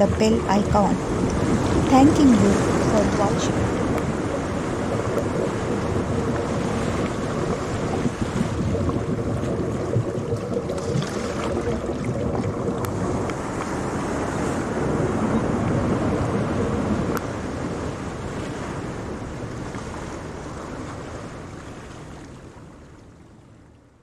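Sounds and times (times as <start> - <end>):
waves and surf: 0.0 - 24.0.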